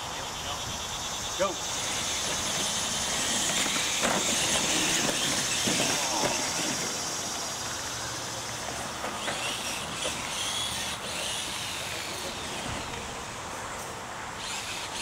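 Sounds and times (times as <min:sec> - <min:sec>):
toy truck electric motor whining: 0:00.2 - 0:13.0, 0:14.4 - 0:15.0.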